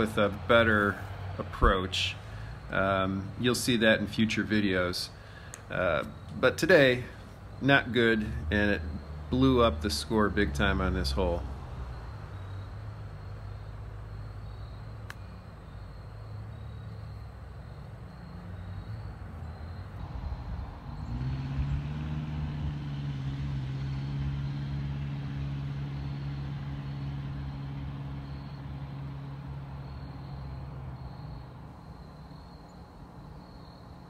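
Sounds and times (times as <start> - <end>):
motor vehicle engine: 0.0 - 34.0.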